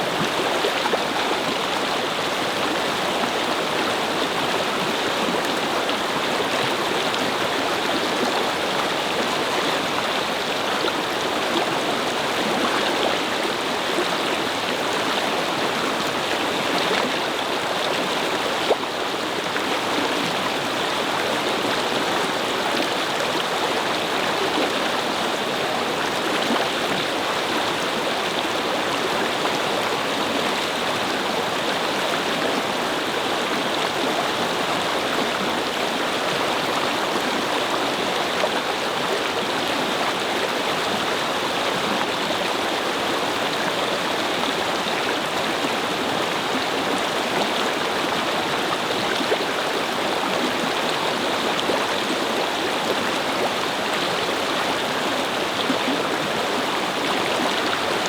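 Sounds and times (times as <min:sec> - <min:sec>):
brook babbling over stones: 0:00.0 - 0:58.0.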